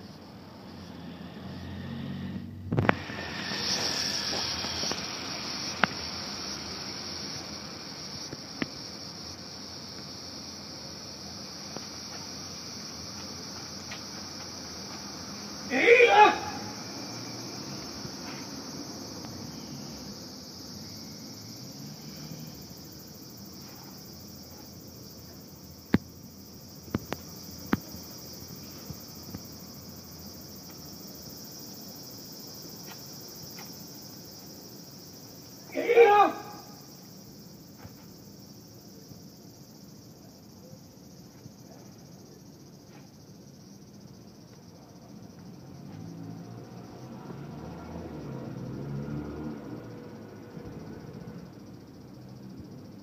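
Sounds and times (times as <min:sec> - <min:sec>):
insects shrilling: 0:00.0 - 0:47.2.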